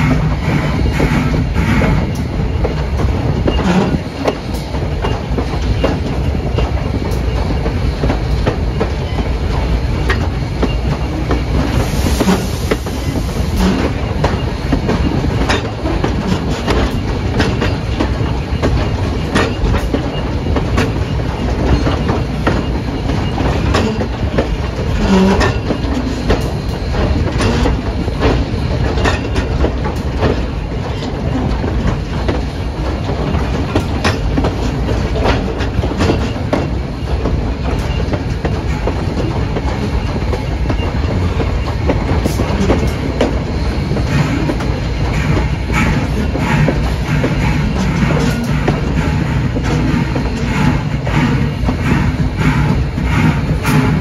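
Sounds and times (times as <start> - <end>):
train rumble: 0.0 - 54.0
train wheels clicking over joints: 0.0 - 54.0.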